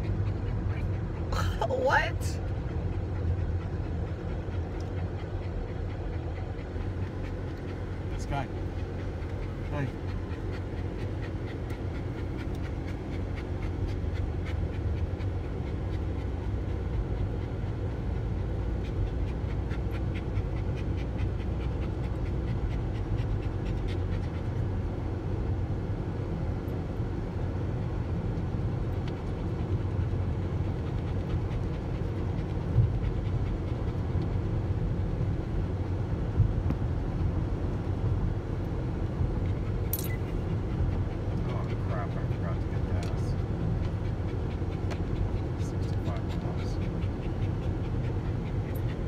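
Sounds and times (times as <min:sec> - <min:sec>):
car cabin road rumble: 0:00.0 - 0:49.0
dogs panting: 0:00.0 - 0:49.0.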